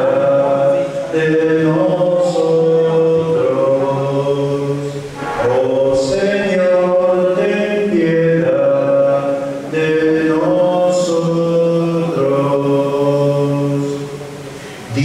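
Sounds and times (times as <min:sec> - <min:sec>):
voices singing slow chant: 0:00.0 - 0:15.0.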